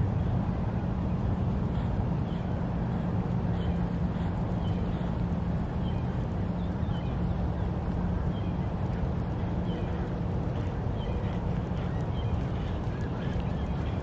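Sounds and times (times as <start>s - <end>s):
distant engine running: 0.0s - 14.0s.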